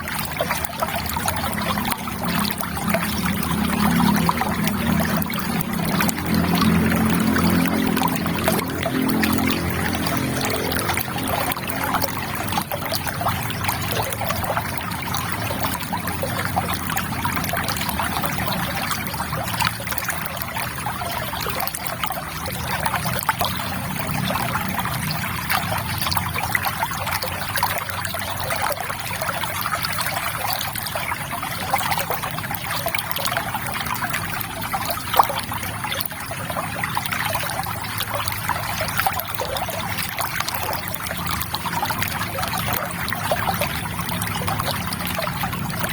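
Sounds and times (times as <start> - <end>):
river water babbling: 0.0 - 45.9.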